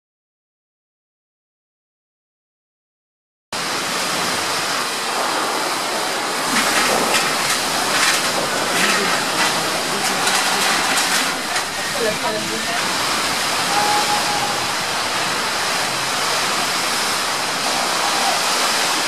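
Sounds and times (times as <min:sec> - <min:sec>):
wind and rain rushing: 0:03.6 - 0:19.0.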